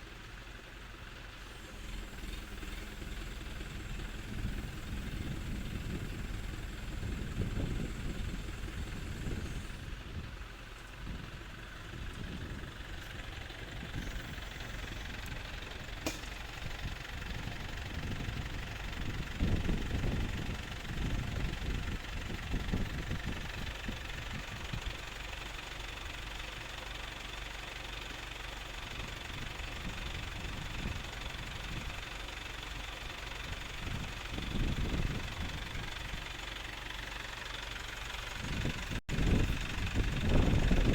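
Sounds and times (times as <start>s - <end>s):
concrete mixer engine idling: 0.0s - 40.9s.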